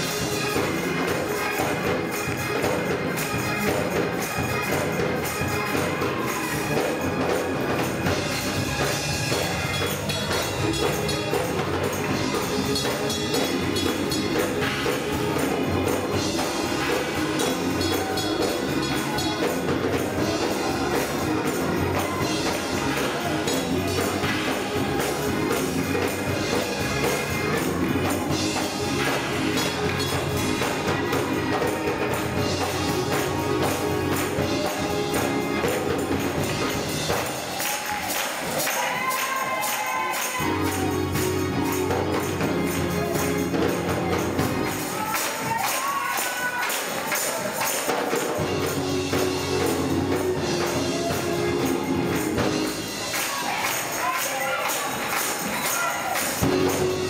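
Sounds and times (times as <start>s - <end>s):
instrumental backing: 0.0s - 57.0s
rhythmic percussive beat: 0.0s - 57.0s
gospel choir singing: 3.9s - 57.0s.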